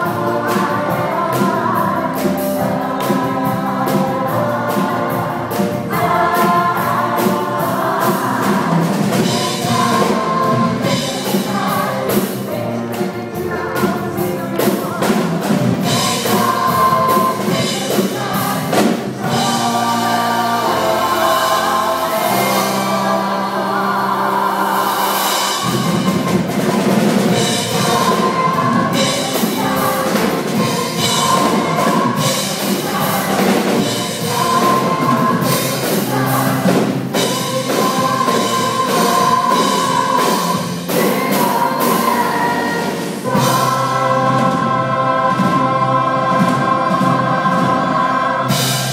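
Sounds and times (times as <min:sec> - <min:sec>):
band playing: 0:00.0 - 0:48.9
choir singing: 0:00.0 - 0:48.9
steady drum beat: 0:00.0 - 0:48.9.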